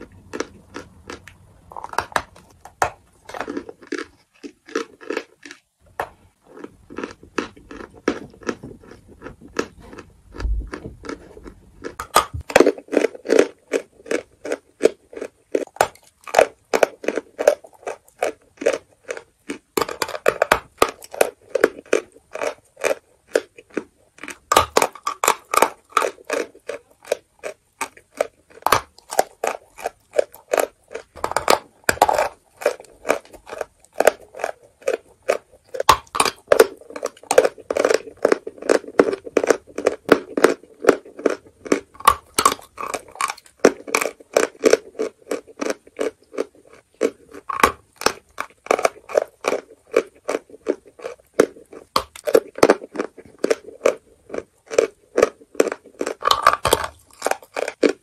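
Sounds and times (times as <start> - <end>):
chewing chalk with gritty crunches: 0.0 - 58.0.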